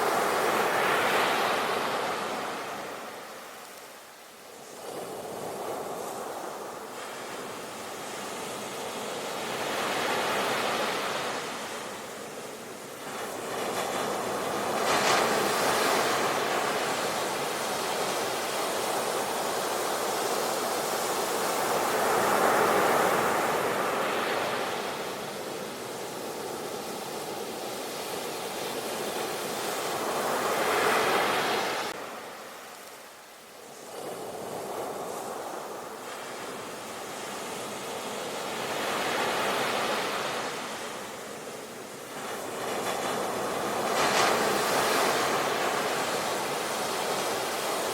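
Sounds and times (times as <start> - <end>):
waves breaking on shore: 0.0 - 3.7, 4.6 - 47.9.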